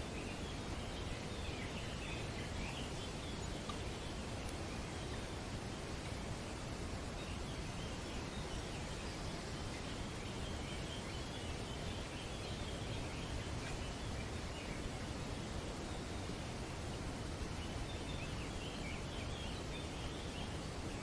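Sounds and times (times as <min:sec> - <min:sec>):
faint bird chatter: 0:00.0 - 0:21.0
wind through trees: 0:00.0 - 0:21.0.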